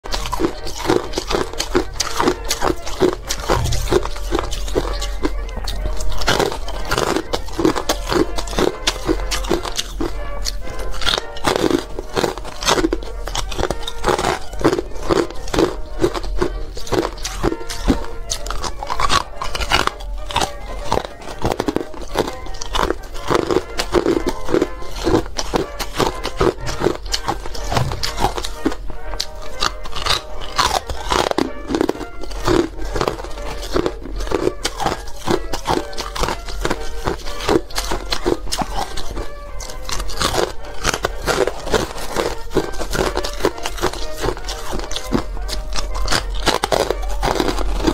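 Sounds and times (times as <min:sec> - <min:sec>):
background music: 0:00.0 - 0:47.9
ice being chewed: 0:00.0 - 0:47.9.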